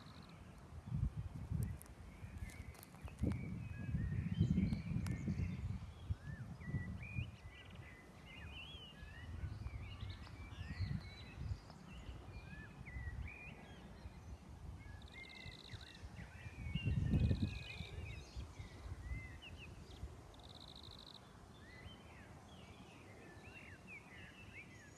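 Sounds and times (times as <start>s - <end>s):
songbirds chirping and whistling: 0.0s - 24.9s.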